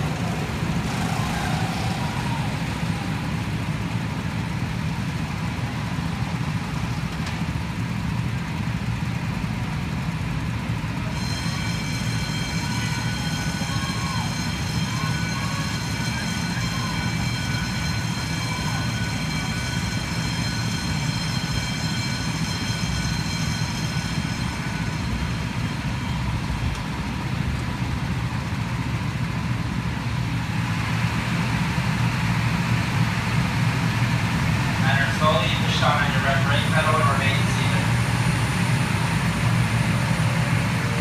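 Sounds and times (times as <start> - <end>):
go-kart engines droning: 0.0 - 41.0
high steady whine: 0.0 - 41.0.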